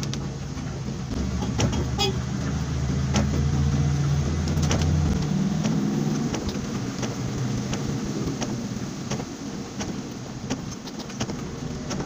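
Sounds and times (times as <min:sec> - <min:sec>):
tyres hissing on wet road: 0:00.0 - 0:12.0
vehicle engine running: 0:00.0 - 0:12.0.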